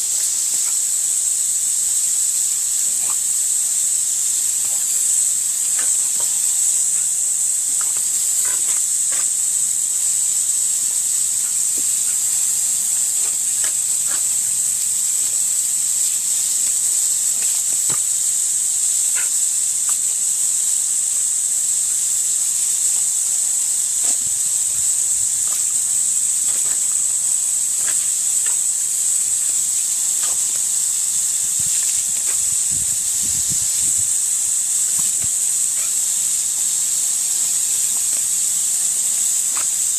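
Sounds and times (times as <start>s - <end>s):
hose nozzle spraying water: 0.0s - 39.9s.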